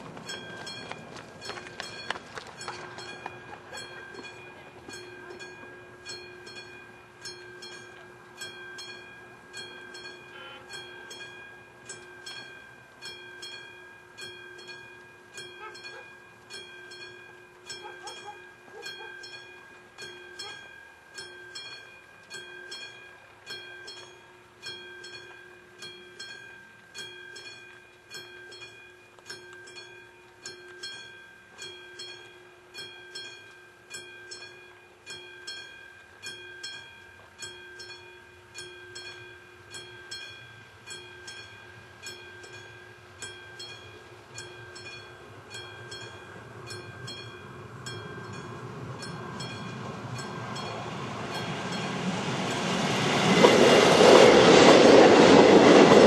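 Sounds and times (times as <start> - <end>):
level crossing warning bell ringing: 0.0 - 56.0.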